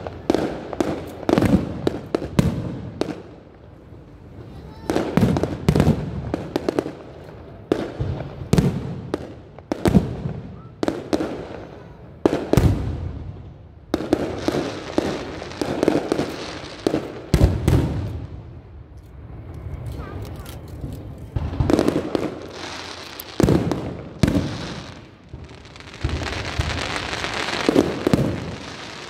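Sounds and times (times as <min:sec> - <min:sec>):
firework bangs: 0:00.0 - 0:03.5, 0:04.6 - 0:18.7, 0:21.3 - 0:29.0
firework crackling: 0:00.0 - 0:29.0.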